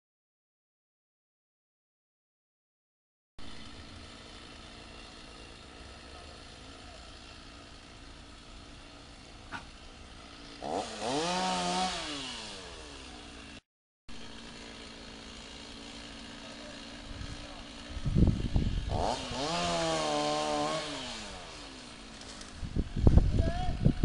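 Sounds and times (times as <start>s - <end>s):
chainsaw running and revving: 3.4s - 24.0s.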